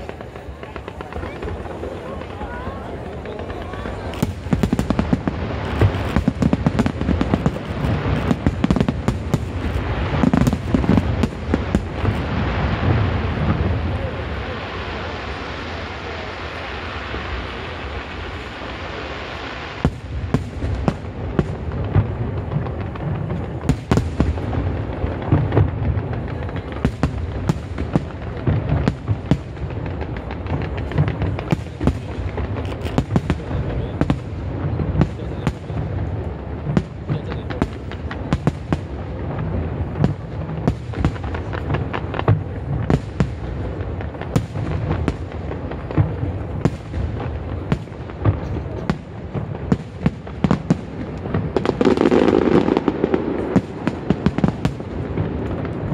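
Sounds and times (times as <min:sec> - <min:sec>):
sharp firework bangs and cracks: 0:00.0 - 0:55.9.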